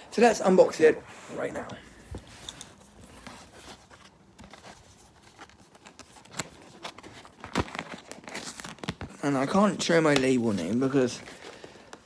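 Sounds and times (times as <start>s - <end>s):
packaging rustling: 2.2s - 12.0s.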